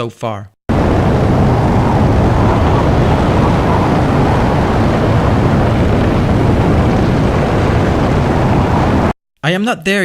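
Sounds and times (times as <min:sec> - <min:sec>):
wind: 0:00.7 - 0:09.1
dense rumble: 0:00.7 - 0:09.2
rocket thruster: 0:00.7 - 0:09.2.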